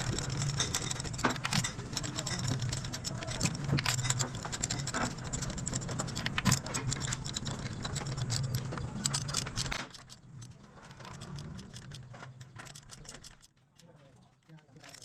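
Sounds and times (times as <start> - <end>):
metallic clicks and rattles: 0.0 - 15.0.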